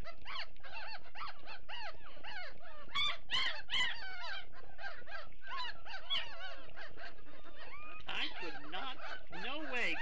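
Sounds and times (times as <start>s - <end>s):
puppies whining and squealing: 0.0s - 10.0s.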